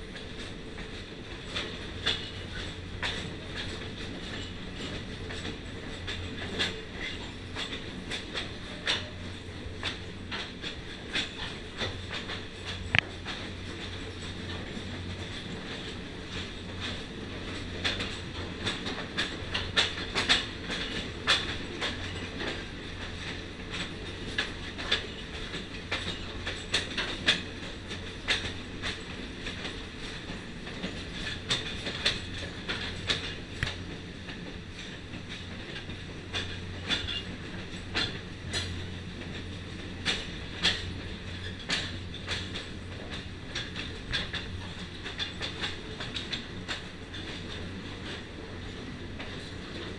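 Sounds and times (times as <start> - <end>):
train coach rumbling: 0.0 - 49.9
wheel clicks on rails: 0.0 - 49.9.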